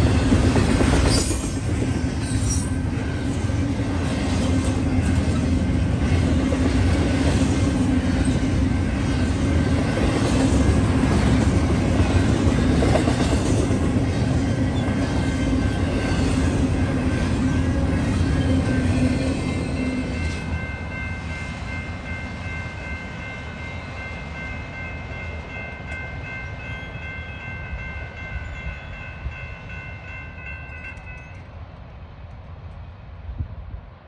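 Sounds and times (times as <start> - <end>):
crossing warning bell: 0.0 - 31.6
freight train rumbling past: 0.0 - 34.0.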